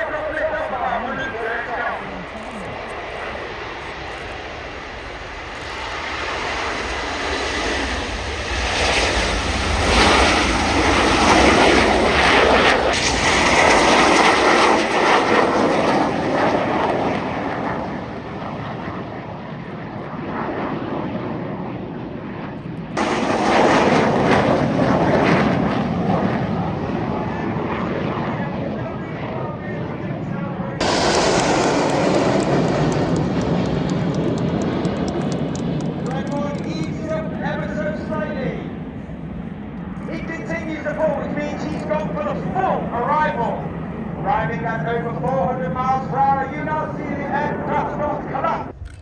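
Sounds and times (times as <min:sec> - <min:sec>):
jets taking off: 0:00.0 - 0:18.7, 0:23.0 - 0:49.0.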